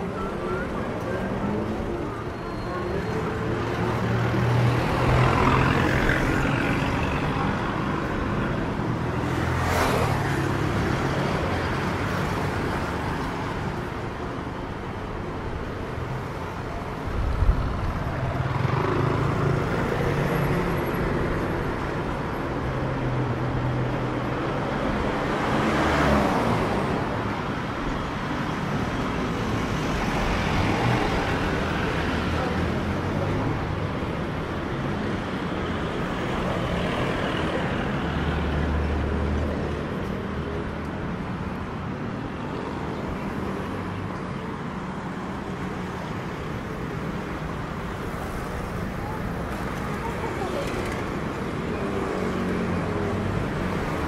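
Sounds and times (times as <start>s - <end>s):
vehicles passing close by: 0.0s - 54.0s.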